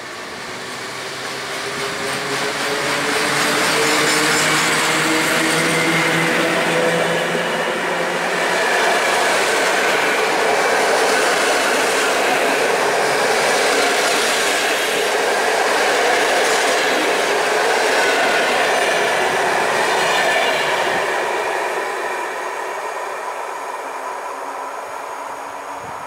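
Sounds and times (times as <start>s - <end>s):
train wheels rushing on rail: 0.0s - 26.0s.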